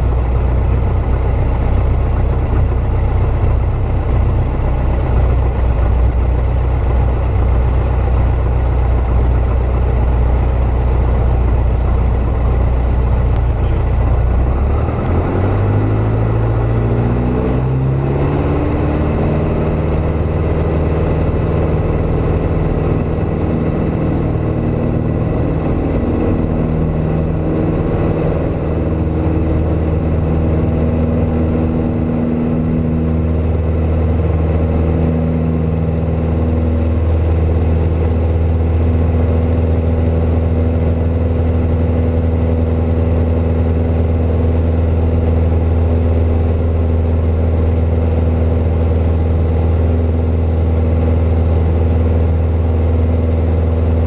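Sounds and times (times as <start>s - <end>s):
propeller plane engine drone: 0.0s - 54.0s.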